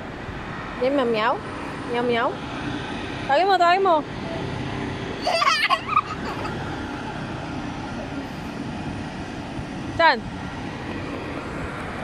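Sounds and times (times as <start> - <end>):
outdoor background hum: 0.0 - 12.0.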